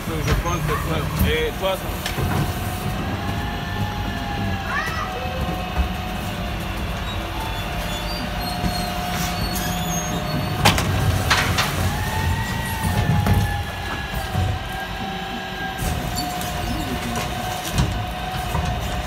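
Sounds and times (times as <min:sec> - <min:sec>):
garbage truck hydraulic whine: 0:00.0 - 0:19.0.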